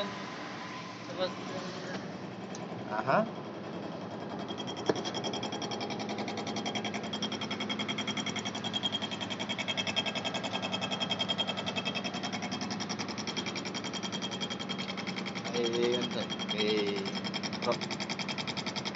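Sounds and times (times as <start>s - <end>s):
low machine hum: 0.0s - 18.9s
milling machine cutting metal: 2.8s - 18.9s.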